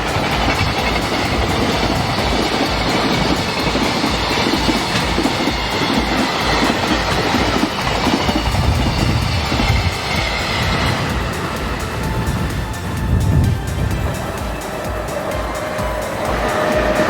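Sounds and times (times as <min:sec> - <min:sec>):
freight train wagons rolling: 0:00.0 - 0:17.0
wheels clacking over rail joints: 0:00.0 - 0:17.0
wind buffeting microphone: 0:00.0 - 0:17.0.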